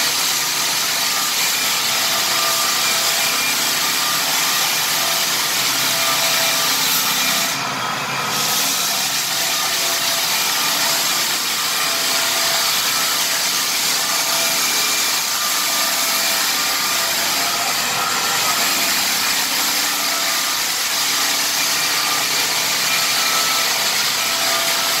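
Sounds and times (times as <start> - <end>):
drum sander grinding floor: 0.0 - 25.0.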